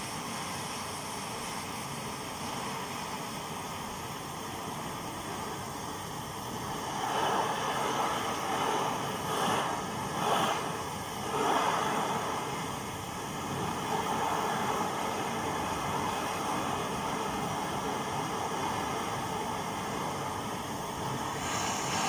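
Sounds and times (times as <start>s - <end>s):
stove burners roaring hiss: 0.0s - 22.0s.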